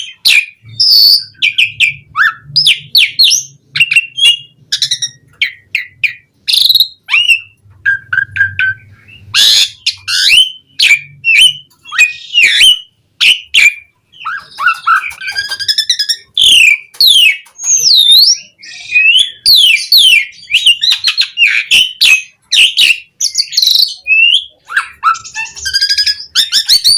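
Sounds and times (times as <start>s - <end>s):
starling singing whistles and chatter: 0.0s - 26.9s.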